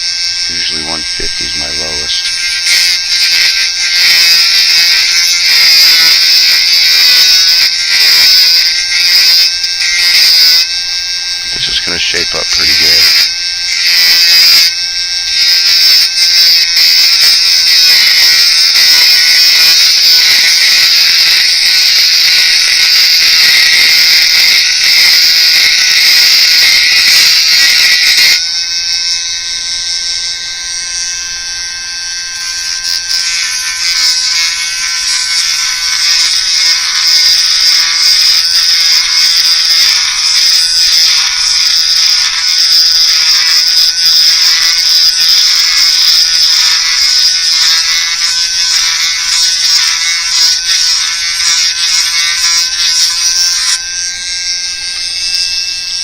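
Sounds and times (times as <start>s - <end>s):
rotary tool grinding plastic: 0.0s - 56.0s.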